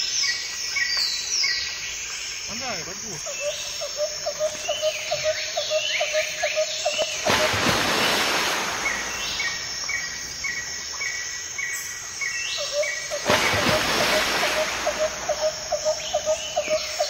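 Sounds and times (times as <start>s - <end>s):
steady hiss: 0.0s - 6.0s, 6.8s - 17.0s.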